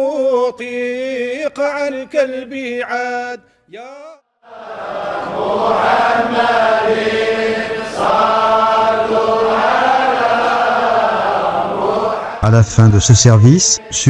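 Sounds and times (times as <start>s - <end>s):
men chanting a hymn: 0.0s - 14.0s.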